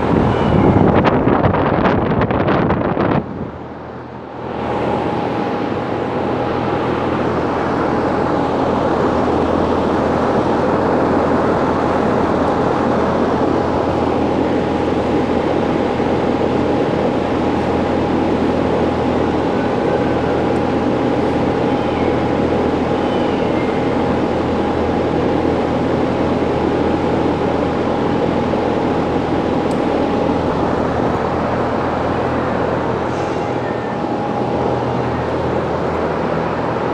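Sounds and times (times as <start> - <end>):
exhaust fan running: 0.0 - 36.9.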